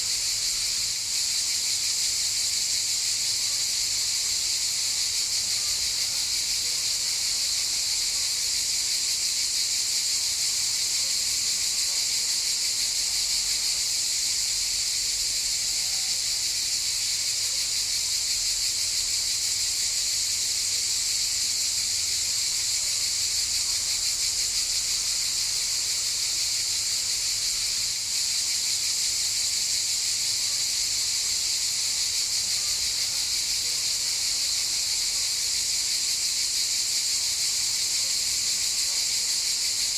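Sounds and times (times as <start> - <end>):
cicadas buzzing: 0.0 - 7.6, 12.3 - 39.9.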